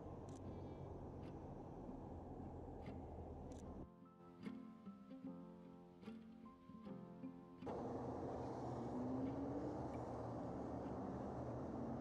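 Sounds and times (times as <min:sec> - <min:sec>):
quiet sustained background music: 0:00.1 - 0:12.0.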